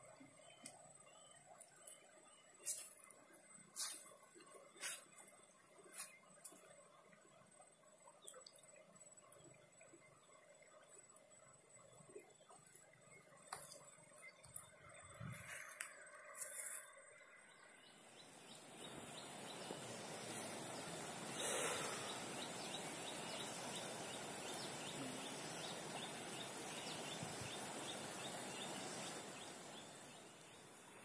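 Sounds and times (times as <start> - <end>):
outdoor noise: 0.0 - 31.0.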